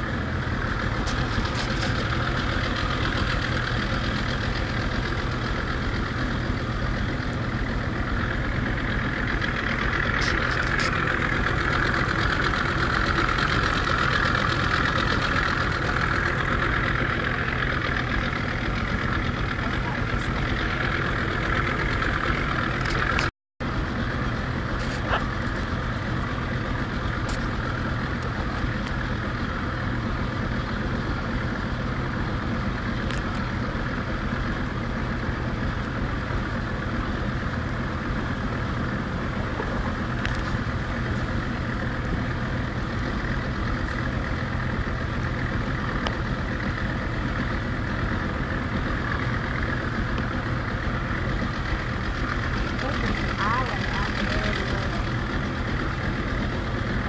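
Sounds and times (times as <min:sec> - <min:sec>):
boat motor running: 0:00.0 - 0:57.0.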